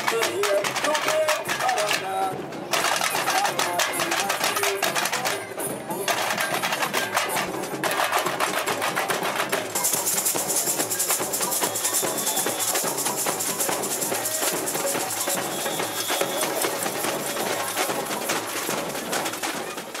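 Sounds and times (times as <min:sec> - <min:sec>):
samba percussion band: 0:00.0 - 0:20.0.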